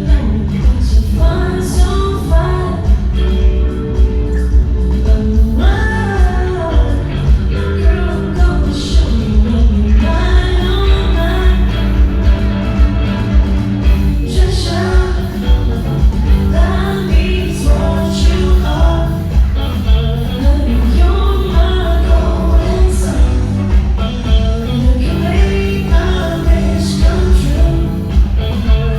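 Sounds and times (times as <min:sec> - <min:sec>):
live band music: 0:00.0 - 0:28.9
person singing: 0:00.0 - 0:28.9.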